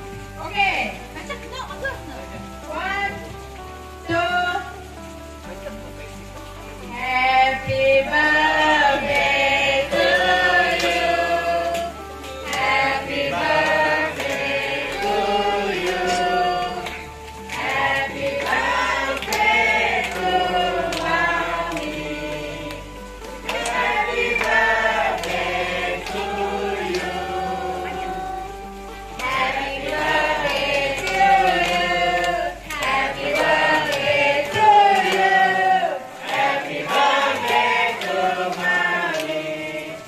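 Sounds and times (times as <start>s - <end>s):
group singing birthday song: 6.8s - 40.0s.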